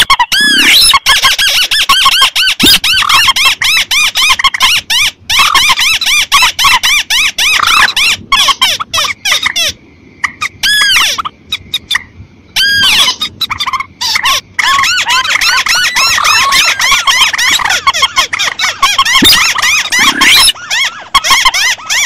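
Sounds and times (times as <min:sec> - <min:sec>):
squeaky bird calls: 0:00.0 - 0:12.0, 0:12.6 - 0:22.0.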